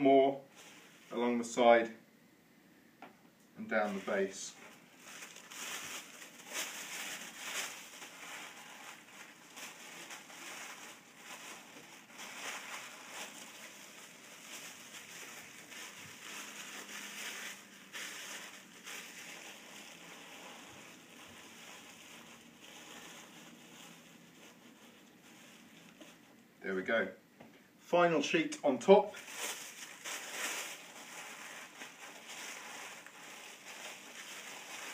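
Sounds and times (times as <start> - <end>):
tissue paper rustling: 0.5 - 1.2, 3.8 - 26.4, 29.2 - 34.9.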